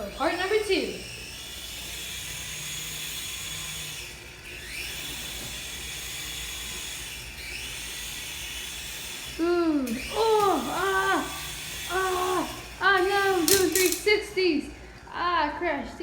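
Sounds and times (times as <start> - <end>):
toy drone propellers whining: 0.0 - 16.0.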